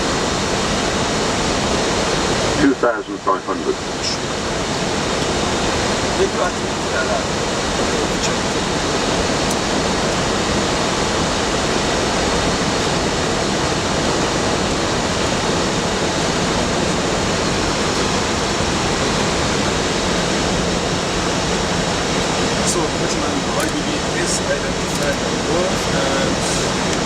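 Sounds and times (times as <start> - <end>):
airflow over airframe: 0.0 - 27.0.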